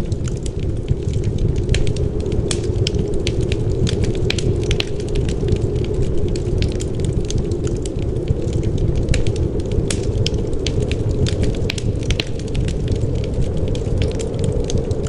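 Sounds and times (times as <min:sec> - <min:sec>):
low rush of wind: 0:00.0 - 0:15.0
wood fire crackling and popping: 0:00.0 - 0:15.0.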